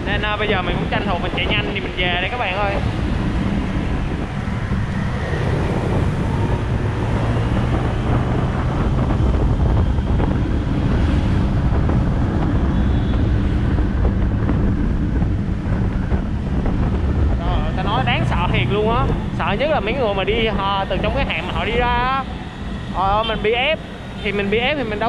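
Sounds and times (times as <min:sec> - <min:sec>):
wind rushing over microphone: 0:00.0 - 0:25.0
motorbike engine: 0:02.8 - 0:25.0.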